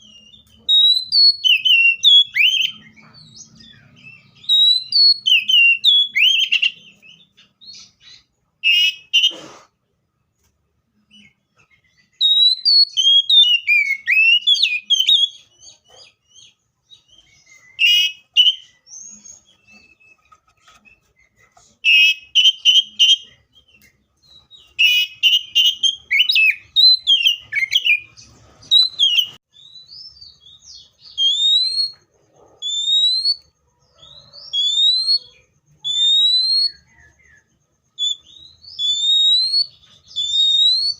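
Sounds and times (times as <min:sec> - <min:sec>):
bird singing whistled phrases: 0:00.0 - 0:03.0, 0:03.9 - 0:09.4, 0:11.2 - 0:20.2, 0:21.8 - 0:32.0, 0:32.6 - 0:40.9
rising whistled bird notes: 0:00.0 - 0:09.4, 0:11.9 - 0:20.2, 0:21.8 - 0:32.0, 0:32.6 - 0:40.9.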